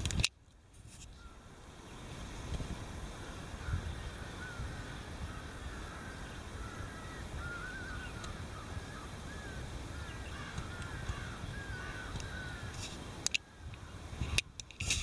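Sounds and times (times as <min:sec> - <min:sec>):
steady low rumble: 0:00.8 - 0:13.2
flock of birds calling: 0:01.0 - 0:15.0.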